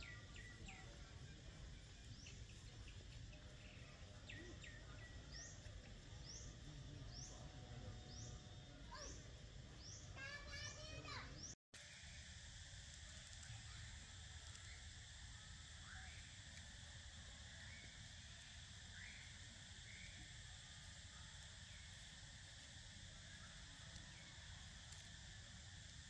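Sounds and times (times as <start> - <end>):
faint insect chorus: 0.0 - 26.0.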